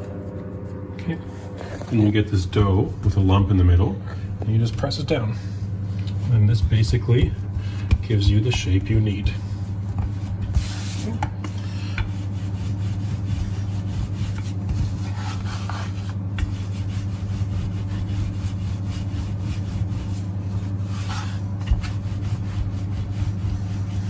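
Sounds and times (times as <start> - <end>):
steady low hum: 0.0 - 24.0
hands rubbing dough on board: 4.5 - 24.0.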